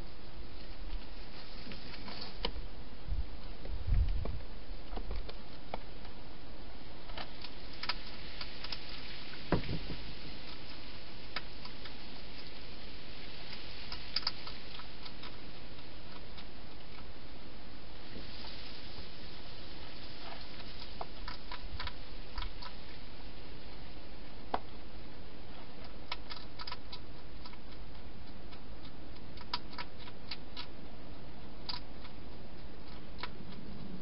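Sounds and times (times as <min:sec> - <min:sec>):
steady hiss: 0:00.0 - 0:34.0.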